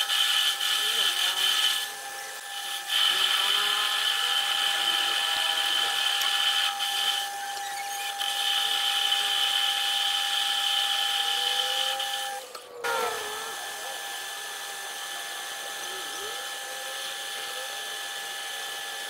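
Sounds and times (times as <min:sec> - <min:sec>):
metal lathe cutting whine: 0:00.0 - 0:19.0.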